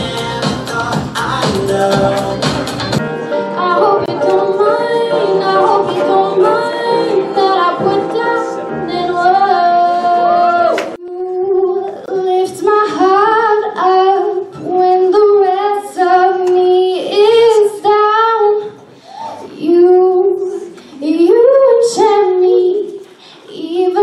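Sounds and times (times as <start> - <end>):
woman singing into microphone: 3.3 - 18.8, 19.4 - 24.0.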